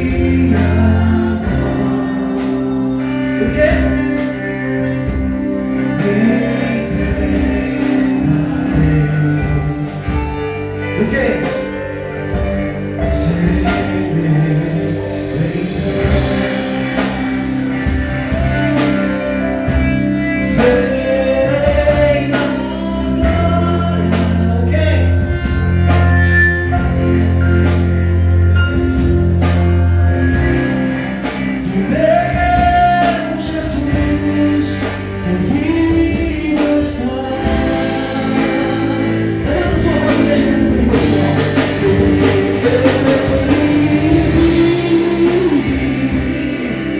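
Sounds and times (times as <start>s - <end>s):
church band playing: 0.0s - 46.9s
people singing: 0.0s - 46.9s.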